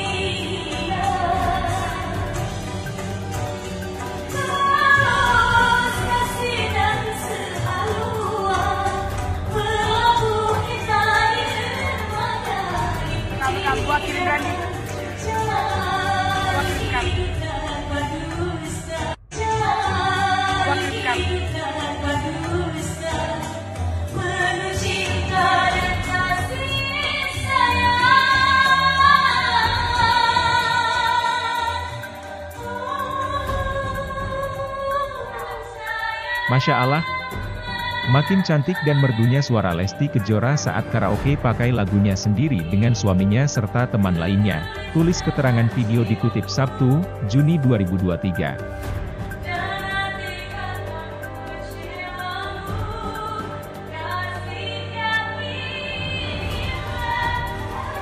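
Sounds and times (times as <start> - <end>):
woman singing into microphone: 0.0 - 2.8, 4.2 - 47.2, 49.4 - 58.0
karaoke backing track: 0.0 - 58.0.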